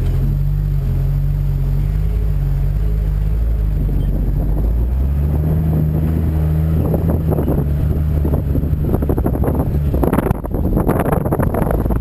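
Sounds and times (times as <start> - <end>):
engine running off-road: 0.0 - 12.0.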